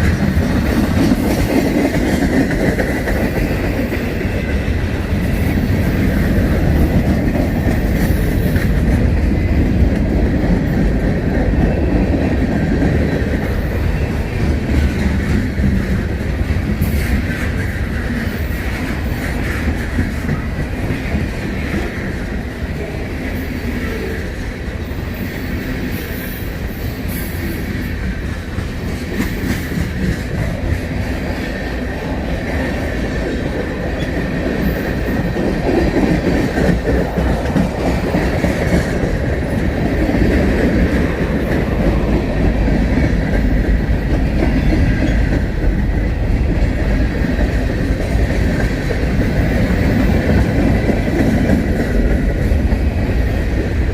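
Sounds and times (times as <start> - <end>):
low train rumble: 0.0 - 53.9
train wheels clacking over rails: 0.0 - 53.9.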